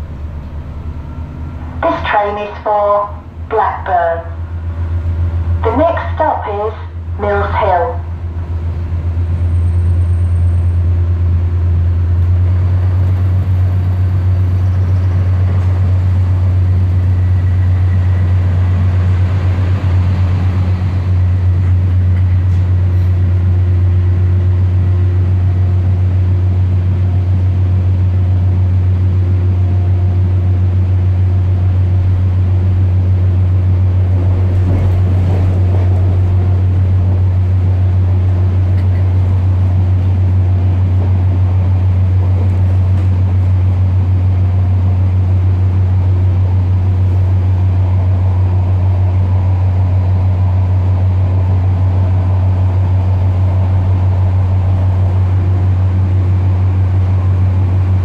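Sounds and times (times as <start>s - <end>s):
train diesel engine drone: 0.0s - 58.0s.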